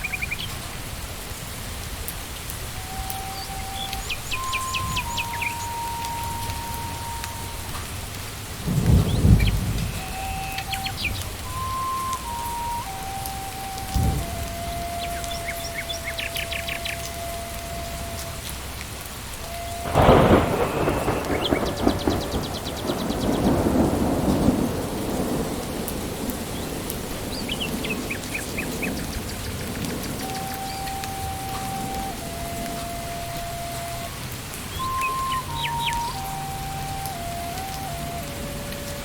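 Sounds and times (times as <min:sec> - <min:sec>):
birds chirping: 0:00.0 - 0:01.0, 0:02.3 - 0:08.0, 0:08.7 - 0:18.6, 0:19.4 - 0:39.0
steady rain in forest: 0:00.0 - 0:39.0
thunderclap rumbling: 0:02.7 - 0:39.0.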